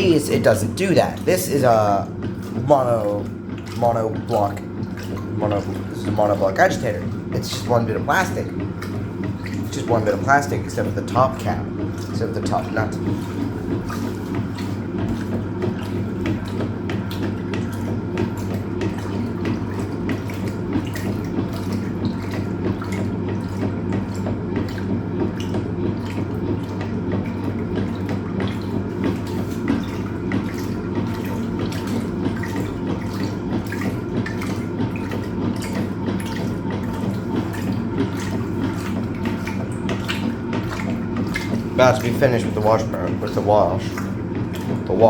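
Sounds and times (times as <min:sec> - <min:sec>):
motor hum: 0:00.0 - 0:45.0
washing machine churning water: 0:00.0 - 0:45.0.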